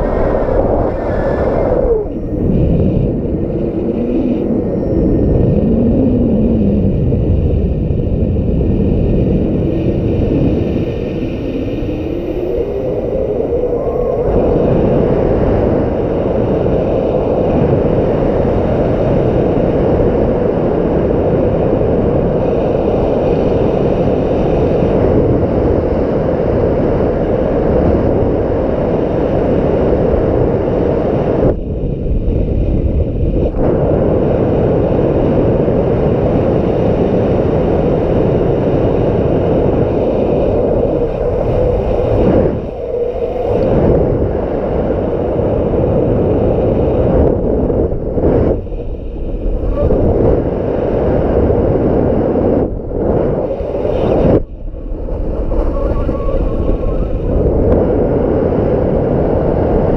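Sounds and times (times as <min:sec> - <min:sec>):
wind blowing over microphone: 0:00.0 - 0:59.9.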